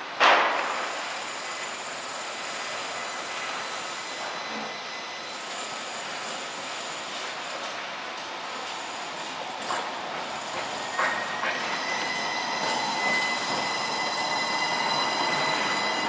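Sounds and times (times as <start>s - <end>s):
traffic on a wet street: 0.0s - 16.0s.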